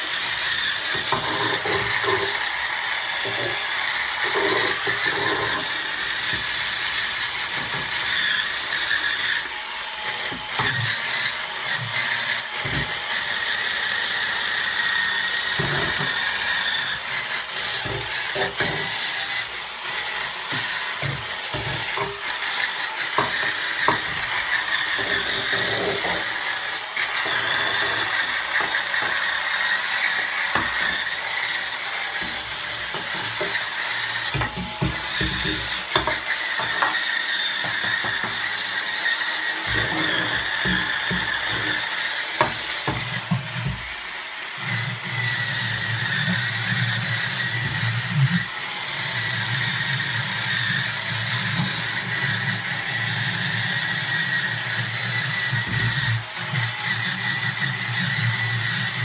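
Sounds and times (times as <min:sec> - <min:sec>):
spin scrubber motor whirring: 0:00.0 - 0:59.0.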